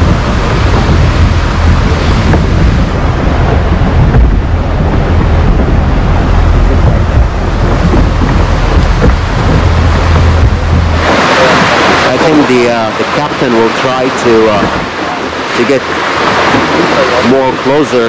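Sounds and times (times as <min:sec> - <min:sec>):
water rushing along hull: 0:00.0 - 0:18.0
wind rumbling on microphone: 0:00.0 - 0:18.0.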